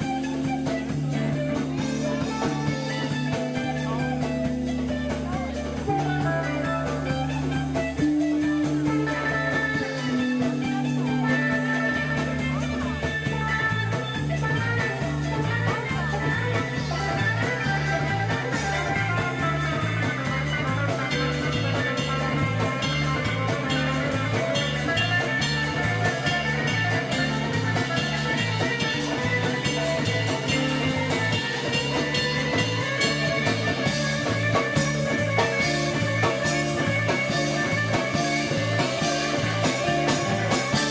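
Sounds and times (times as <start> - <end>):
guitar lines: 0.0 - 40.9
repeating bass line: 0.0 - 40.9.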